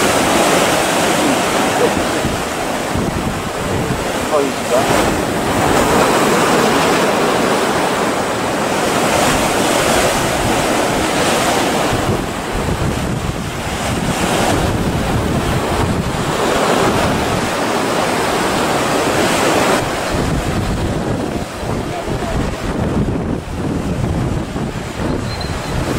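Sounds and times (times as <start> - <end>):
waves breaking: 0.0 - 25.9
wind buffeting microphone: 0.0 - 25.9.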